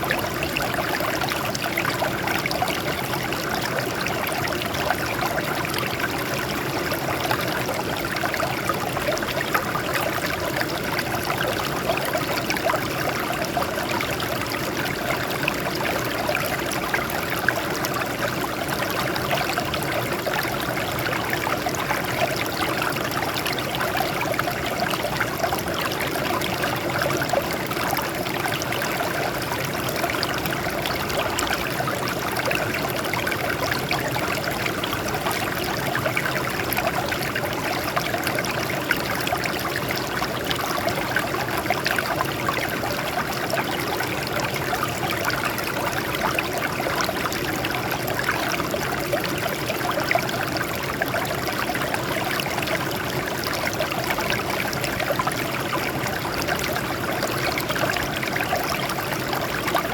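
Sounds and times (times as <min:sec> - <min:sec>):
stream water babbling over rocks: 0:00.0 - 0:59.9.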